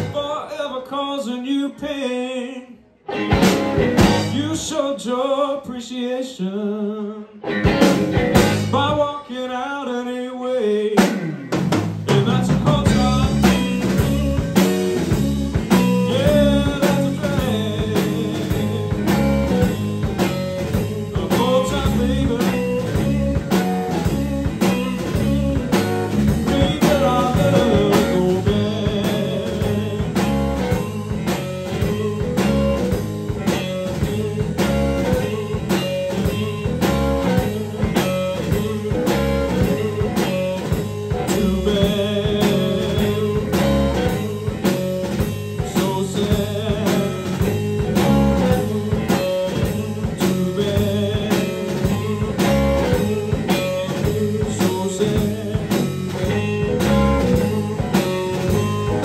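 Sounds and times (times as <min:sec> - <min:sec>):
blues band playing: 0:00.0 - 0:00.4, 0:03.0 - 0:04.8, 0:07.4 - 0:09.5, 0:10.7 - 0:59.0
electric guitar phrases: 0:00.0 - 0:59.0.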